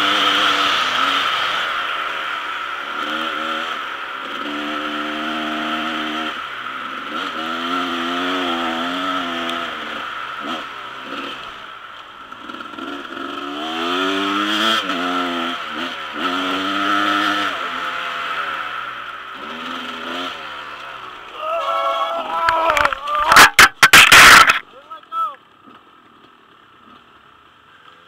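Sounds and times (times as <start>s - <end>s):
dirt bike engine revving: 0.0s - 21.1s, 23.2s - 24.6s
wind and road noise: 0.0s - 28.0s.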